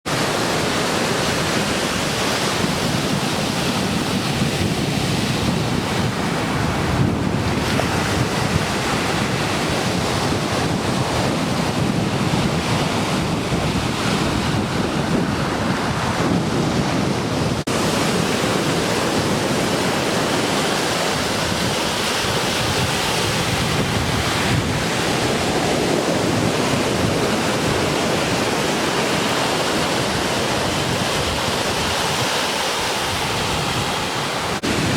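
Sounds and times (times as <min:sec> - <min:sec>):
ocean surf breaking: 0:00.0 - 0:34.9
wind buffeting microphone: 0:00.2 - 0:34.9.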